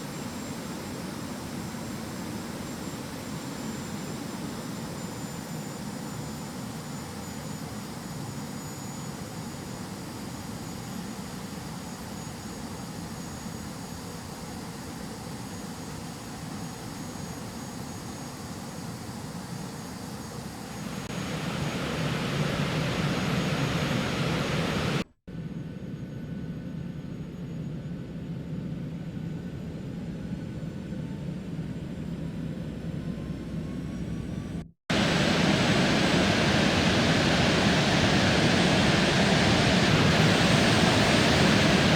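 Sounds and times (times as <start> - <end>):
faint high whine: 0.0 - 41.9
jet engine and airflow noise: 0.0 - 41.9.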